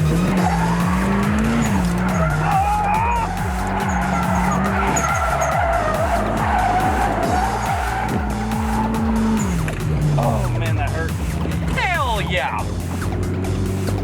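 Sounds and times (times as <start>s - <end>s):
tyres squealing: 0.0s - 12.6s
car engine at high revs: 0.0s - 14.0s.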